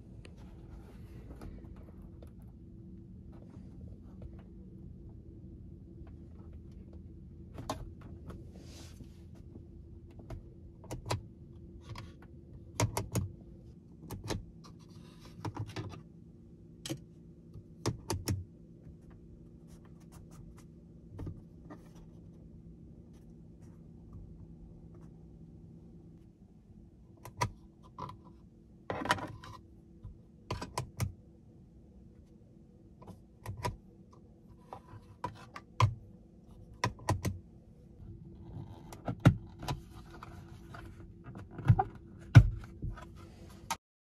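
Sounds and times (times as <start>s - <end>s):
faint steady hum: 0.0s - 43.8s.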